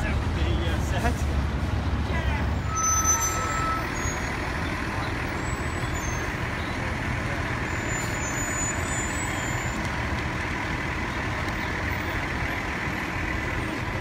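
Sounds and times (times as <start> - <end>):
city street noise: 0.0 - 14.0
truck diesel engine rumbling: 0.0 - 14.0.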